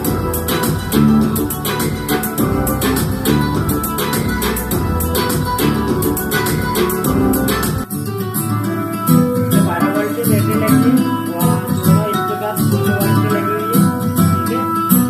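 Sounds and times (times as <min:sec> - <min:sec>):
guitar music over speaker: 0:00.0 - 0:15.0.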